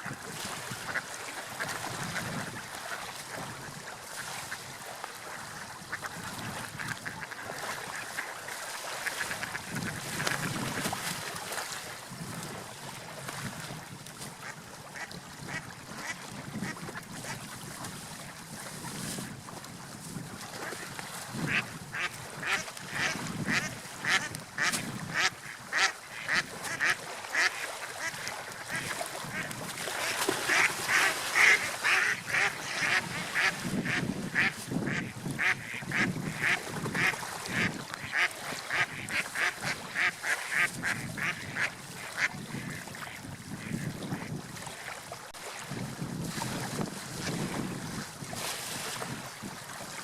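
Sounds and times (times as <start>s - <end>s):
surf washing: 0.0s - 50.0s.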